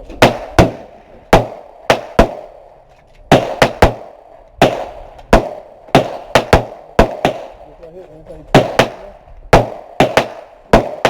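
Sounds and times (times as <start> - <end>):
gunshots with echo: 0.0 - 11.0.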